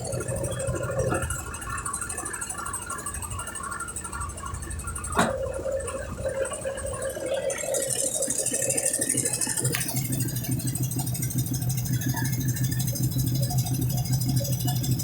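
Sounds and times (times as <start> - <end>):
washing machine motor humming: 0.0 - 15.0.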